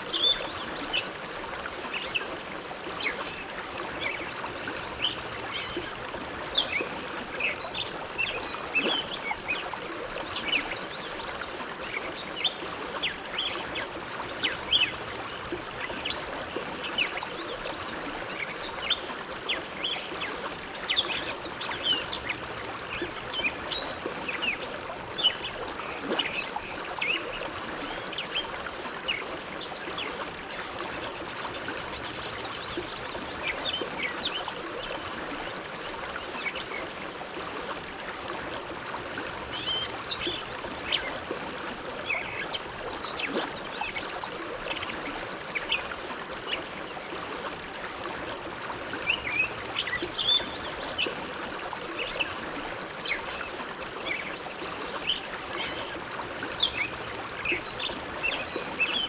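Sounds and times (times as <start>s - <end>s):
river water rushing and gurgling: 0.0s - 59.0s.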